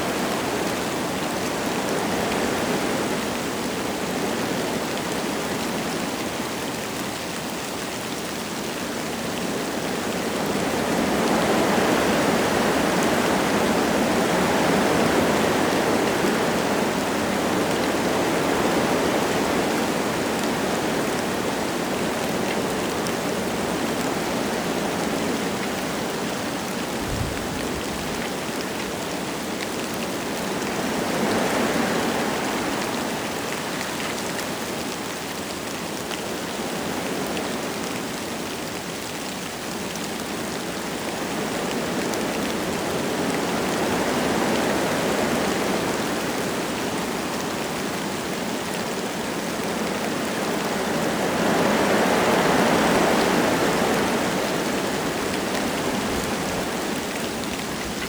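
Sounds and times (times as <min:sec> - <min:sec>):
light rain pattering: 0:00.0 - 0:58.0
wind gusting through trees: 0:00.0 - 0:58.0.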